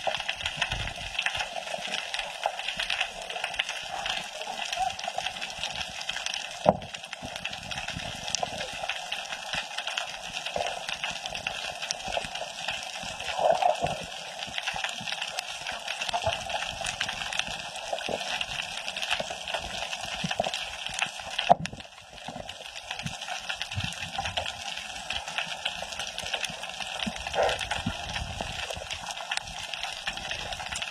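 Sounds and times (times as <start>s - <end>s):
faint crackling and clicking: 0.0s - 30.9s.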